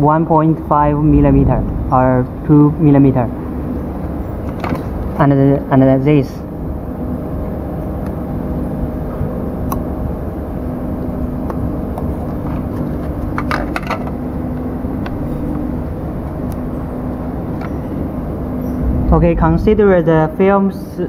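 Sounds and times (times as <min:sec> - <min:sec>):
faint hum: 0:00.0 - 0:21.0
low background rumble: 0:00.0 - 0:21.0.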